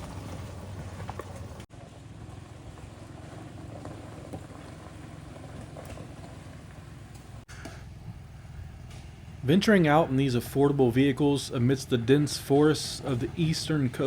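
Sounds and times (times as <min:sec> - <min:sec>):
truck engine drone: 0:00.0 - 0:14.0
tyre and road noise: 0:00.0 - 0:14.0.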